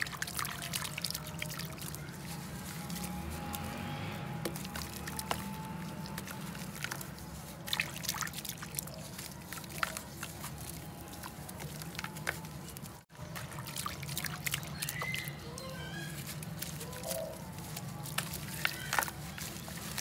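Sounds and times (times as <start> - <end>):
small splashes and drips: 0.0 - 20.0
wet dirt crumbling: 0.0 - 20.0.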